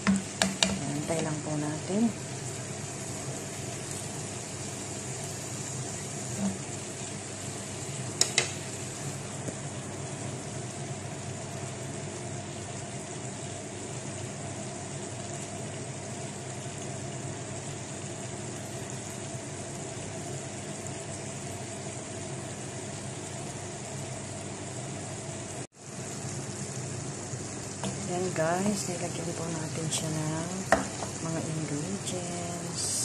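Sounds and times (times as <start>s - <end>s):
chicken sizzling in a frying pan: 0.0s - 33.0s.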